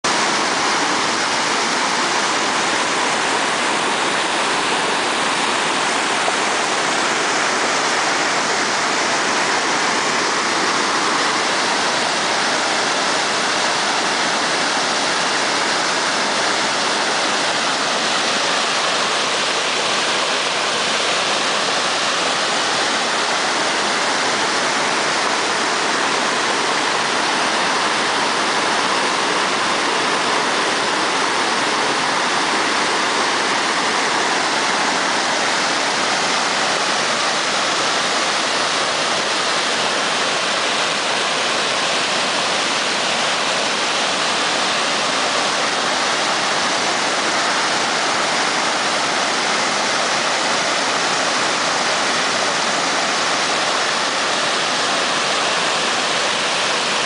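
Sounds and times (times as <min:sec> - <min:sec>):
water rushing over a weir: 0:00.0 - 0:57.0.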